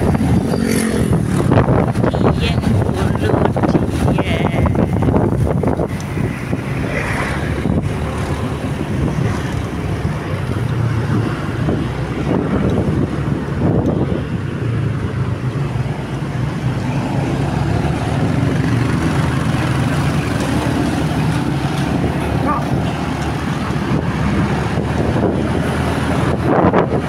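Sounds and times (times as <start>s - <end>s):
motorcycle engines rumbling: 0.0s - 27.0s
wind rushing over microphone: 0.0s - 27.0s.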